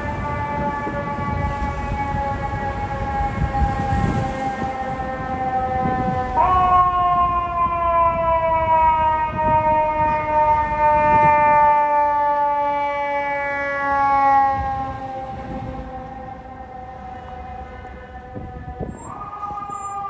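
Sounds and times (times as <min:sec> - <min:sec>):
low city traffic rumble: 0:00.0 - 0:20.0
mechanical fire siren wailing: 0:00.0 - 0:20.0.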